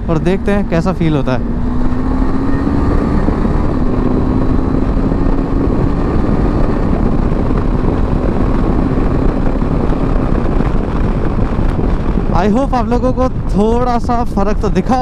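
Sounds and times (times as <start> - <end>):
motorcycle engine accelerating and upshifting: 0.0 - 15.0
wind noise: 0.0 - 15.0.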